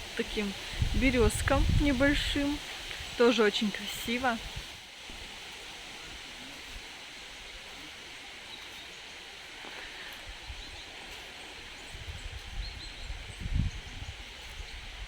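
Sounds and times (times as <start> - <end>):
steady woodland hiss: 0.0 - 15.0.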